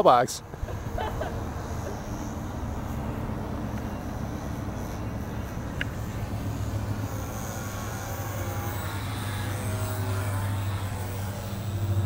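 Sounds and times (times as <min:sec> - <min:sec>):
model plane motor droning: 0:00.0 - 0:12.0.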